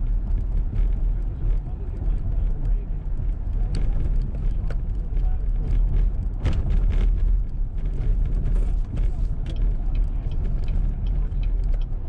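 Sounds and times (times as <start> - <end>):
tyre and engine rumble: 0.0 - 12.0
light ticks: 0.3 - 12.0.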